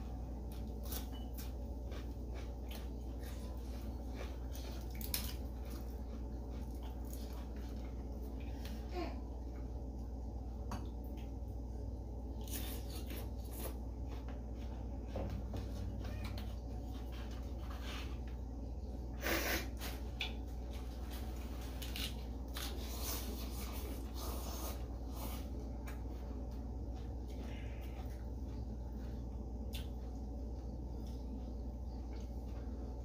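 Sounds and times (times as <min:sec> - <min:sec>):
people chewing food: 0:00.0 - 0:18.6, 0:19.2 - 0:33.0
steady low hum: 0:00.0 - 0:33.0.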